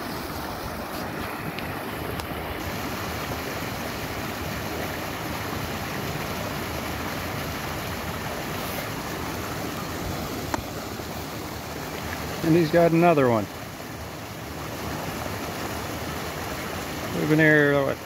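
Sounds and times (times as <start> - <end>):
flowing creek: 0.0 - 18.0.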